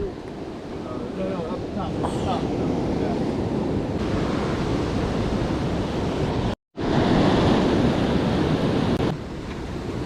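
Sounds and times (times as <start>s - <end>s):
ocean surf: 0.0s - 10.0s
wind buffeting microphone: 0.0s - 10.0s.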